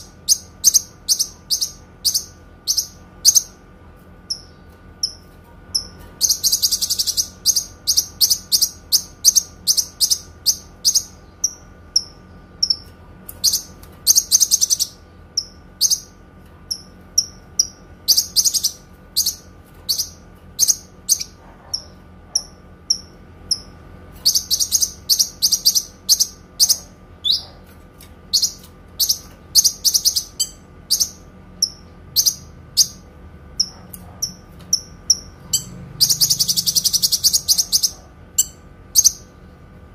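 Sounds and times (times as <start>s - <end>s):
songbird chirping and trilling: 0.0s - 39.4s.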